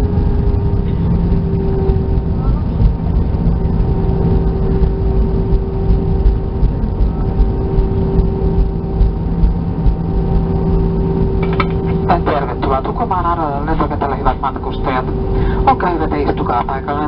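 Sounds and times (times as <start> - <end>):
aircraft cabin engine hum: 0.0 - 17.0
low uneven rumble: 0.0 - 17.0.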